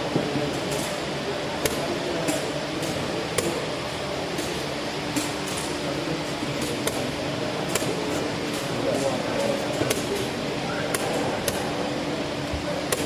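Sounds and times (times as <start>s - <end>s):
murmur of crowded room: 0.0s - 13.0s.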